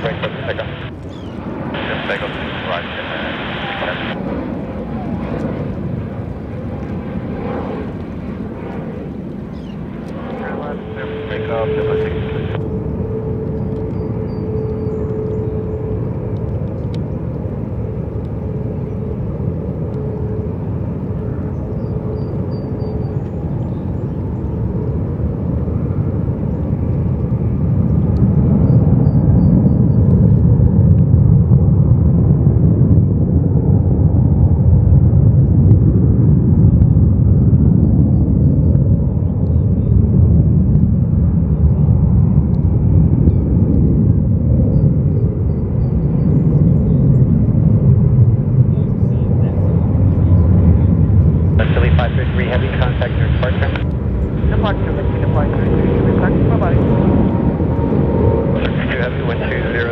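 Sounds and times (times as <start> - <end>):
jet engines low rumble: 0.0 - 59.9.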